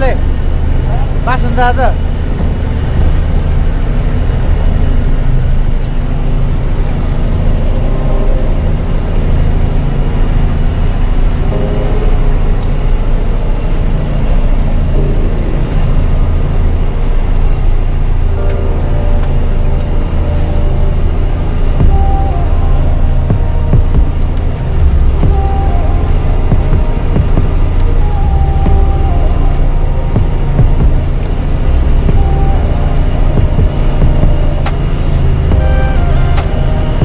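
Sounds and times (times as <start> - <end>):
truck diesel engine droning: 0.0 - 37.0.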